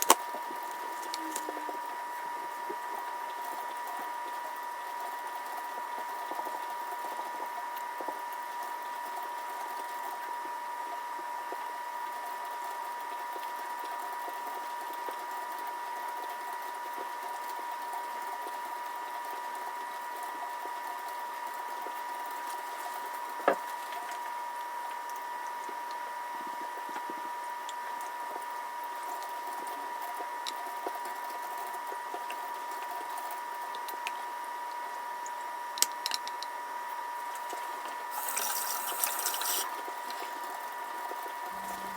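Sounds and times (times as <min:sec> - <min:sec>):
machine hum with high tone: 0:00.0 - 0:14.8, 0:19.0 - 0:41.9.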